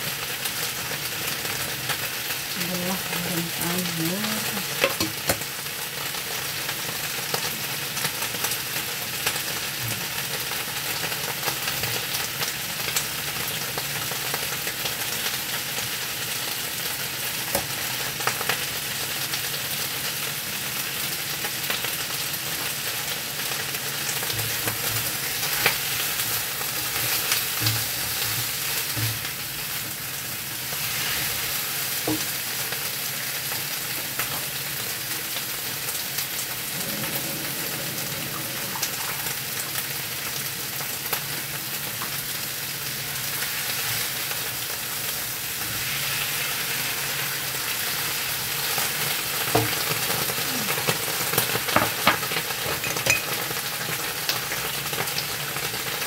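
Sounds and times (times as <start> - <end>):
chicken deep-frying in oil: 0.0 - 56.0
oil popping and crackling: 4.3 - 56.0.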